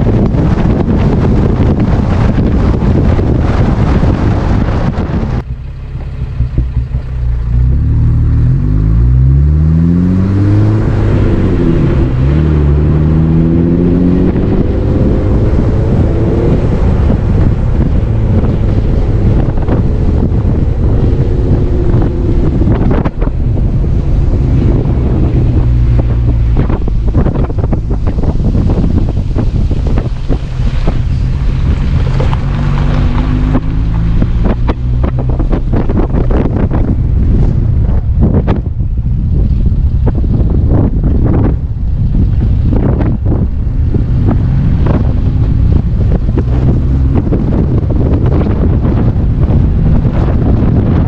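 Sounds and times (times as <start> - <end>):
vehicle engine accelerating: 0.0 - 51.0
wind buffeting microphone: 0.0 - 51.0.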